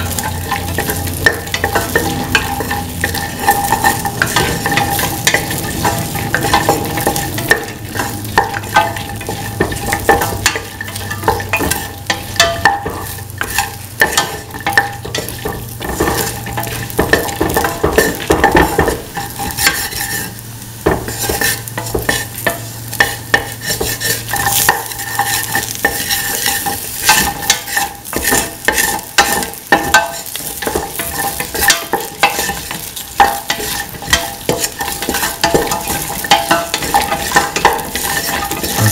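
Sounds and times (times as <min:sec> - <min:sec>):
hot oil sizzling: 0:00.0 - 0:38.9
spatula scraping metal pan: 0:00.0 - 0:38.9.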